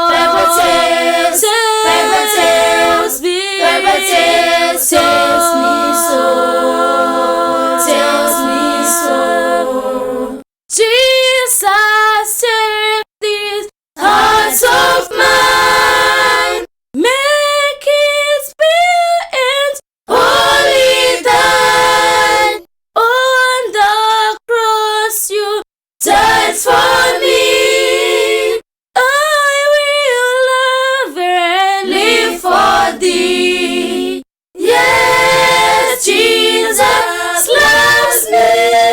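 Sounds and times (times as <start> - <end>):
a cappella group singing: 0.0 - 18.5, 19.4 - 38.9.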